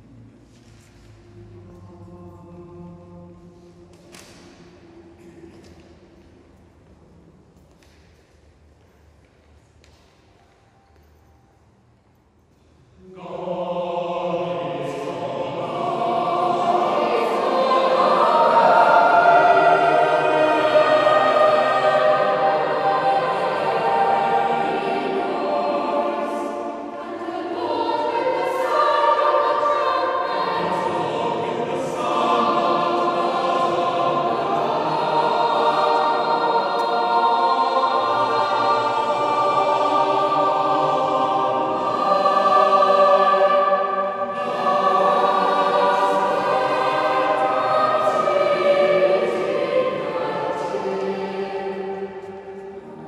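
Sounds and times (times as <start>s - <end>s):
choir singing with echo: 0.0s - 8.3s, 12.6s - 53.0s.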